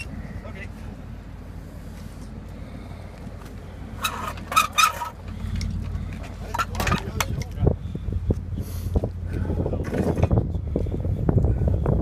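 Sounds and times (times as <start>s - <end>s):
race car engine idling: 0.0s - 12.0s.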